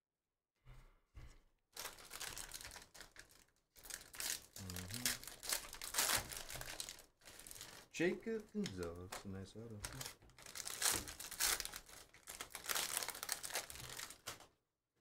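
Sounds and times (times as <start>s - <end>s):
foil wrapper crinkling and tearing: 1.8s - 14.4s.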